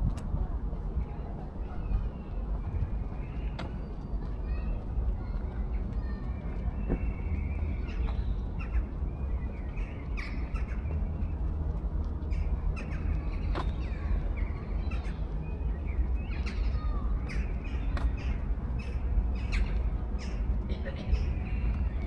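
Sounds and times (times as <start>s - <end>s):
steady low rumble: 0.0s - 22.0s
birds calling: 1.1s - 11.6s, 12.2s - 22.0s.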